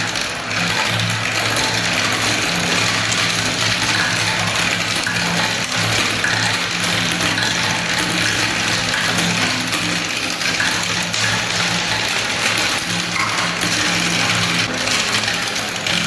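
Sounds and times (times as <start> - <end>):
marbles rattling down plastic tracks: 0.0 - 16.0.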